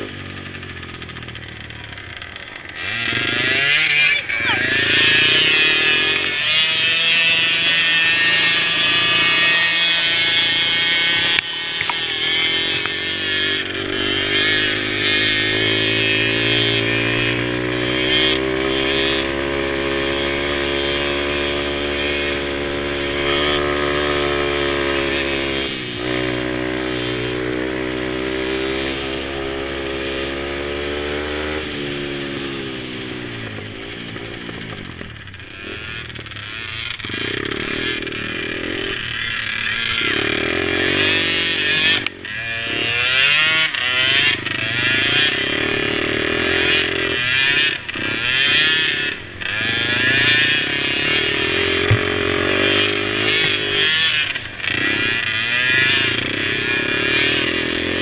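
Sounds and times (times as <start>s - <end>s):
small quad engine revving: 0.0s - 58.0s.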